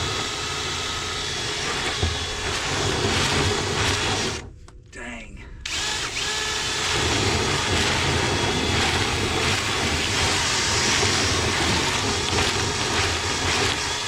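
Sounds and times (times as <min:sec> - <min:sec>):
power drill spinning brush in duct: 0:00.0 - 0:04.5, 0:05.7 - 0:14.0.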